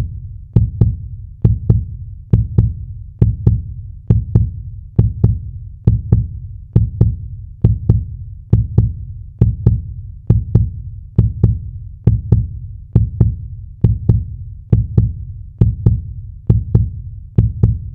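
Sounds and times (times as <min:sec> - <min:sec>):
heartbeat: 0:00.0 - 0:17.9.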